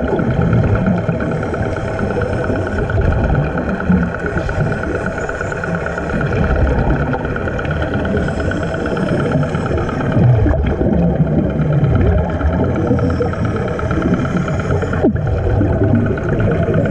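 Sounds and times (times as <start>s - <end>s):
engine droning underwater: 0.0s - 16.9s
low water rumble: 0.0s - 16.9s.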